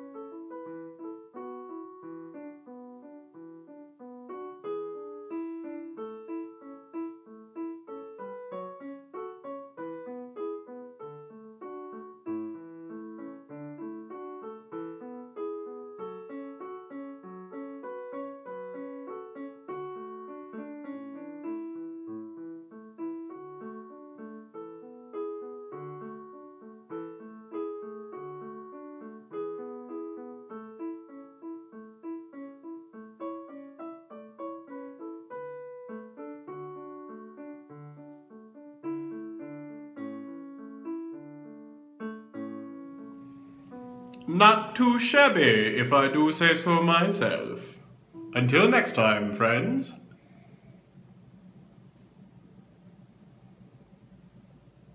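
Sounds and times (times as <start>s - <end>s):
solo piano music: 0.0s - 54.9s.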